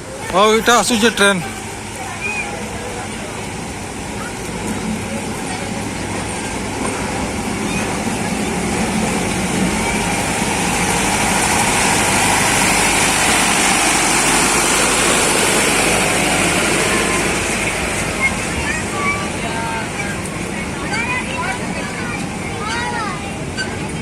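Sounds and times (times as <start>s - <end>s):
miniature train running: 0.0s - 24.0s.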